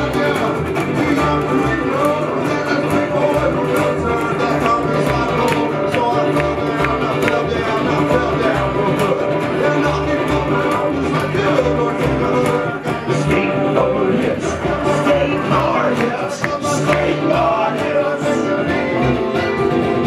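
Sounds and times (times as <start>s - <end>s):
acoustic guitar strumming: 0.0s - 20.0s
upright bass plucking: 0.0s - 20.0s.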